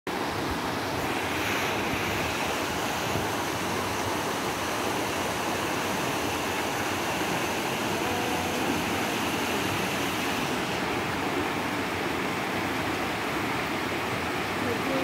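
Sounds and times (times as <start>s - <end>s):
river rushing over boulders: 0.1s - 15.0s.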